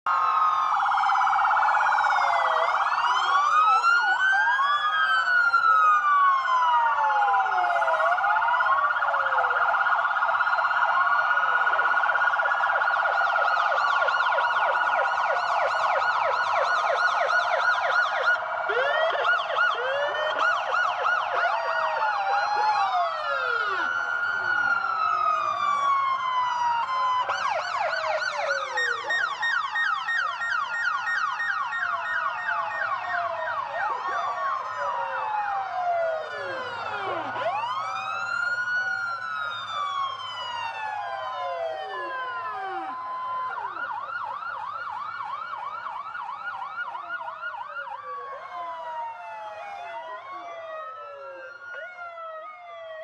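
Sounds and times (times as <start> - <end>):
police sirens wailing: 0.0 - 53.0
siren yelping sweeps: 0.1 - 53.0
siren warble: 0.2 - 53.0.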